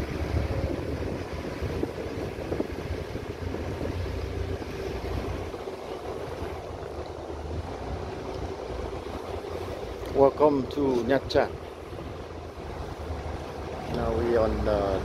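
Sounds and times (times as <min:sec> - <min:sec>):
boat engine running: 0:00.0 - 0:15.0
water washing against hull: 0:00.0 - 0:15.0
wind buffeting microphone: 0:00.0 - 0:15.0.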